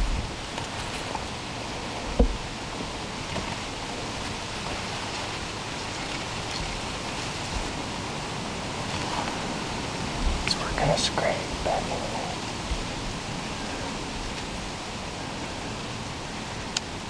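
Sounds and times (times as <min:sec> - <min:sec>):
breeze rushing: 0:00.0 - 0:17.0.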